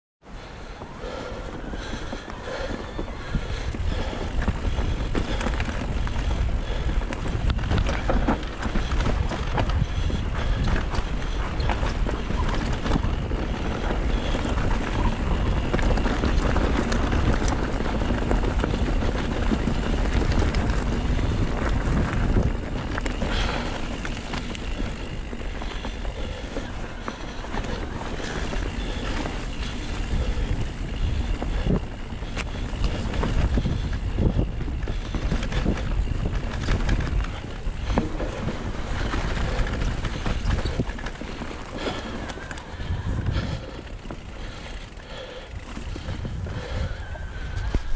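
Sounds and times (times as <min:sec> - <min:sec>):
bike tyres rolling over earth: 0:00.2 - 0:47.9
bike clicking and rattling: 0:00.3 - 0:47.9
wind buffeting microphone: 0:00.4 - 0:47.9.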